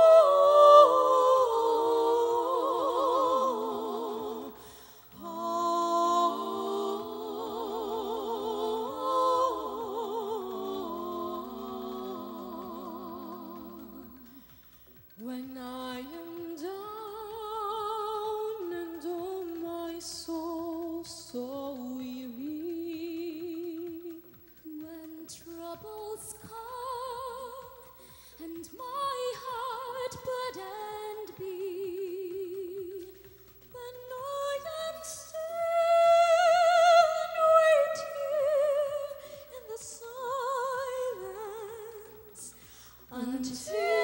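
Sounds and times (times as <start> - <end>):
women singing with vibrato: 0.0 - 44.0.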